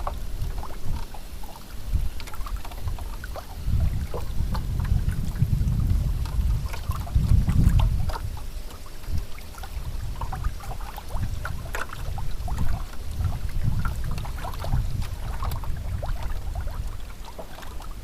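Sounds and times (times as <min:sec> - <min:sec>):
water lapping against boat: 0:00.0 - 0:18.0
wind buffeting microphone: 0:00.0 - 0:18.0.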